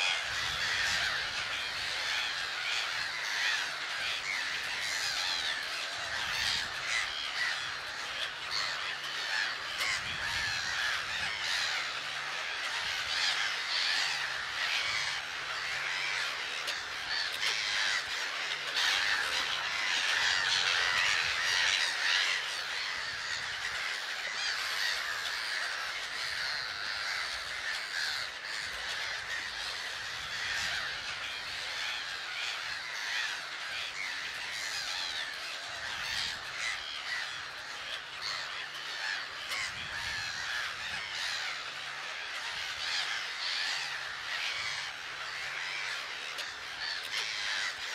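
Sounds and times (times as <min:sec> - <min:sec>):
gull colony calling: 0:00.0 - 0:47.9.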